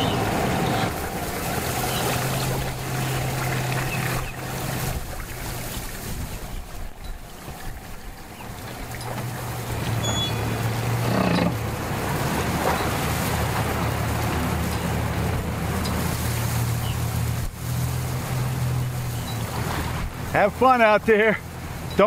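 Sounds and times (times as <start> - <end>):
wind on microphone: 0.0 - 20.3
outboard motor idling: 0.0 - 22.0.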